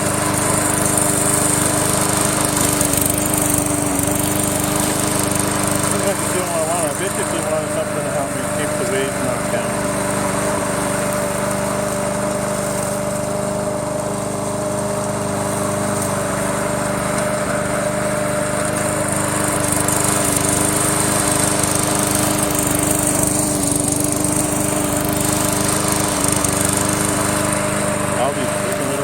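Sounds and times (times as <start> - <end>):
lawn mower mowing grass: 0.0 - 29.0.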